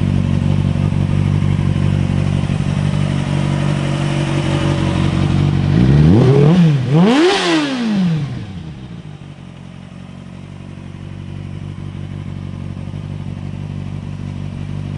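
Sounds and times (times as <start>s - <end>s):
motorcycle engine idling and revving: 0.0s - 14.9s.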